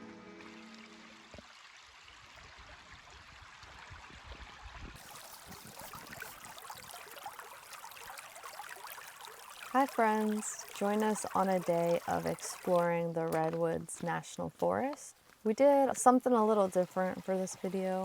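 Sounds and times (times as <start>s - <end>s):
stream trickling and babbling: 0.0s - 18.0s.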